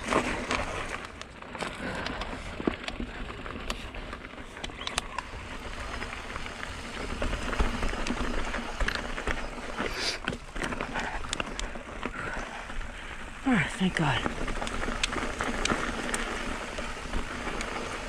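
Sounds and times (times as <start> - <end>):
bike tires crunching gravel: 0.0 - 18.0.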